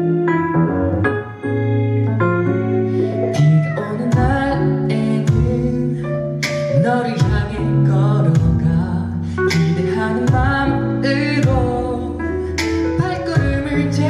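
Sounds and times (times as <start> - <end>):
pop backing track with bass and drums: 0.0 - 14.0.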